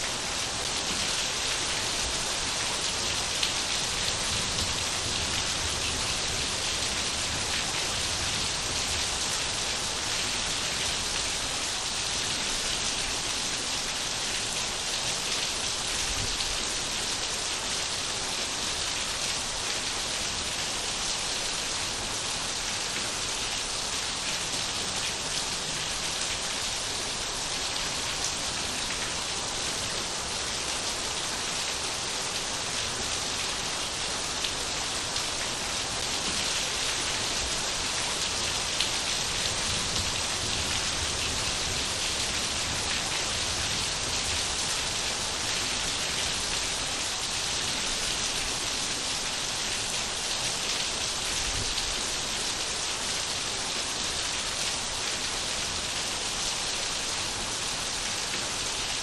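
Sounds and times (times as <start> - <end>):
rain pattering on surfaces: 0.0 - 17.1, 21.6 - 59.0.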